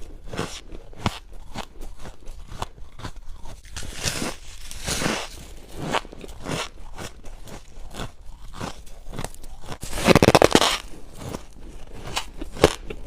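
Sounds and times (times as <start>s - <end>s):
frost crunching between teeth: 0.0s - 13.0s.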